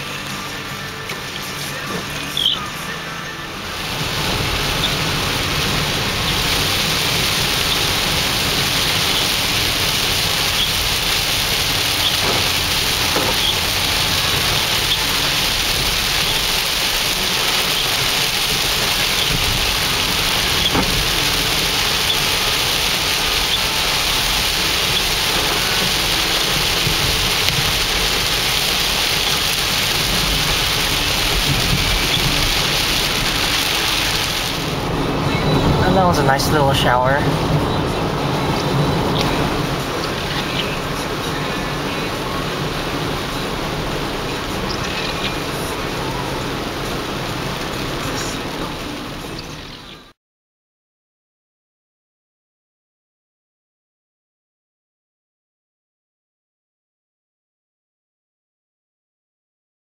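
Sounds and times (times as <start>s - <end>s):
rain on car roof: 0.0s - 50.1s.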